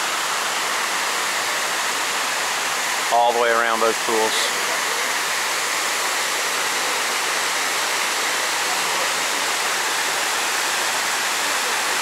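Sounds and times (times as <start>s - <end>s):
water cascading down walls: 0.0s - 12.0s.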